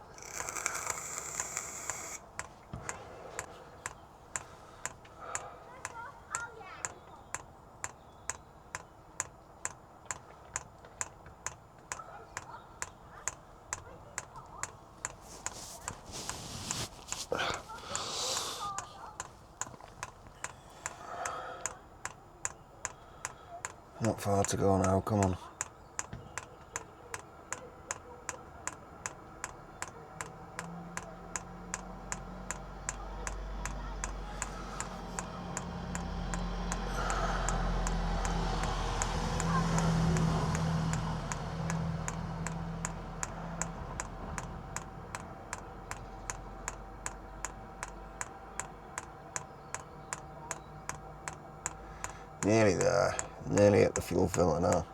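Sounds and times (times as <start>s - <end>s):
fuel pump ticking: 0.0s - 54.9s.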